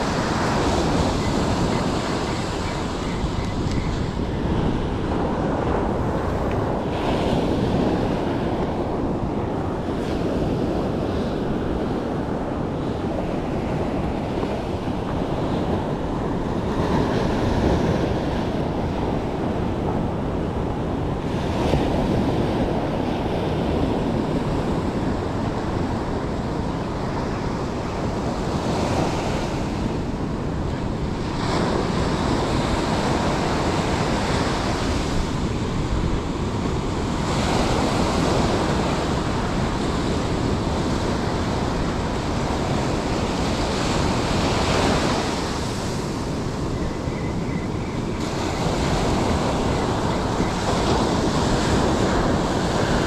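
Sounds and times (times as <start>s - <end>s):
ocean surf on beach: 0.0s - 53.0s.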